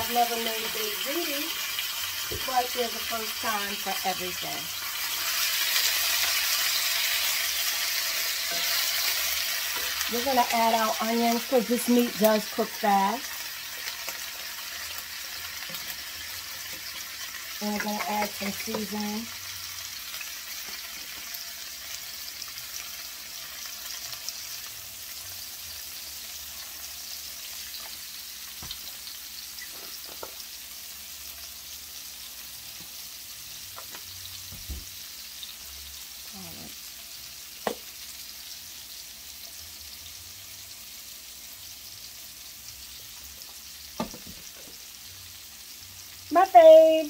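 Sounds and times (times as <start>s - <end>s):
meat and onions sizzling in oil: 0.0s - 47.0s.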